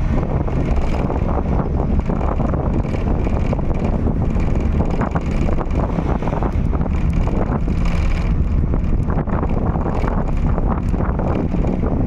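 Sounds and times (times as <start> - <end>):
bus engine and road rumble: 0.0 - 12.0
wind buffeting microphone: 0.0 - 12.0
rattles and knocks: 0.2 - 12.0.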